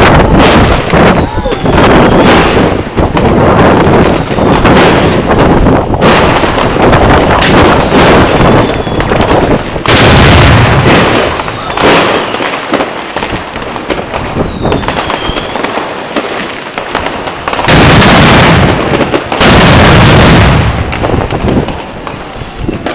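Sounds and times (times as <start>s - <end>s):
firecrackers crackling: 0.0s - 22.9s
loud firecracker blasts: 0.0s - 22.9s.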